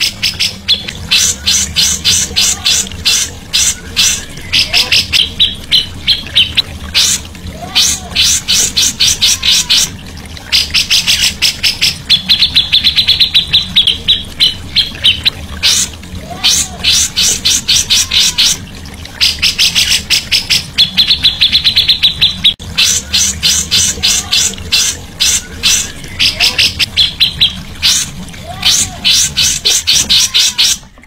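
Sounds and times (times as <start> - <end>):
songbird fast chatter: 0.0 - 9.9, 10.5 - 18.6, 19.2 - 30.9.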